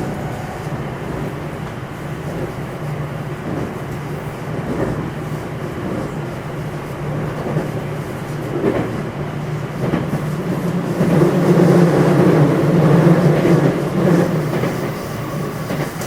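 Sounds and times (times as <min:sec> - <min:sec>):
rail joint clicks: 0:00.0 - 0:16.0
train wheels rumbling on rail: 0:00.0 - 0:16.0.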